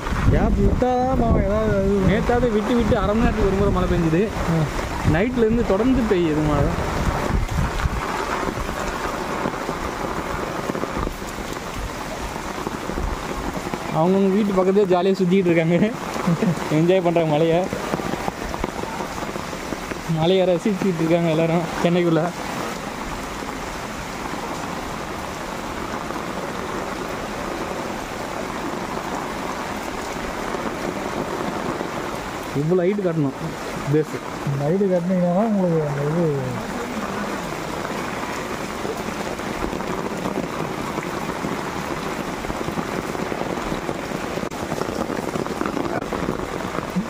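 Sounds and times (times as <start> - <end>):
heavy rain falling on floodwater: 0.0 - 47.0.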